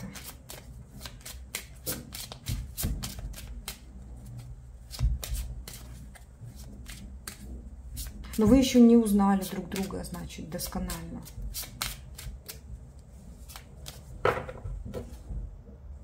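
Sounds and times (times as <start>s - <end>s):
cards being shuffled: 0.0s - 8.6s, 9.4s - 15.2s.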